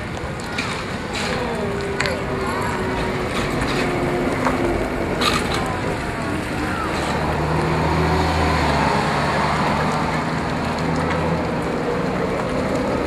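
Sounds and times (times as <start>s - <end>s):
tyre and road noise: 0.0s - 13.0s
trolleybus electric motor hum: 0.1s - 13.0s.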